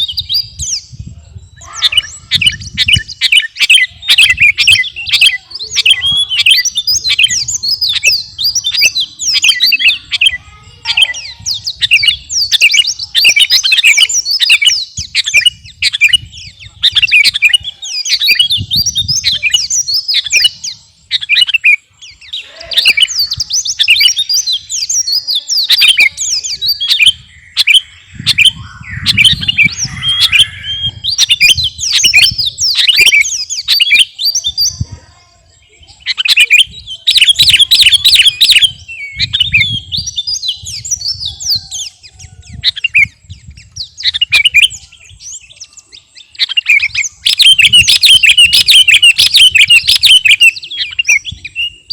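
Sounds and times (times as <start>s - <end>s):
bird singing chirping whistles: 0.0s - 34.9s, 35.6s - 51.9s.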